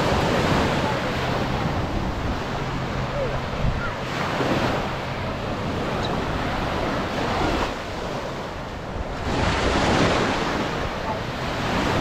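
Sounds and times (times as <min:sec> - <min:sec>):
small waves breaking on sand: 0:00.0 - 0:12.0
wind rumbling on microphone: 0:00.0 - 0:12.0.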